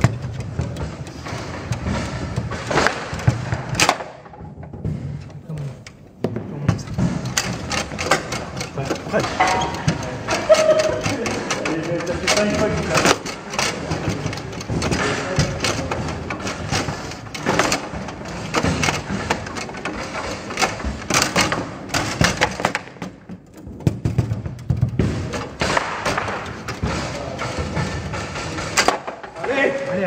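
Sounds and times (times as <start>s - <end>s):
table football ball clacking: 0.0s - 30.0s
table football rods knocking: 0.0s - 30.0s.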